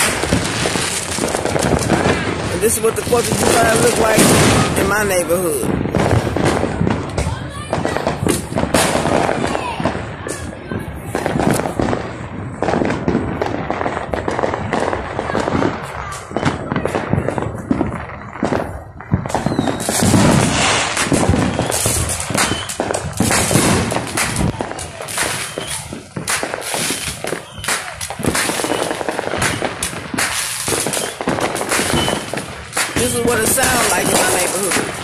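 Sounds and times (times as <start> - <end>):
fireworks banging and crackling: 0.0 - 35.0.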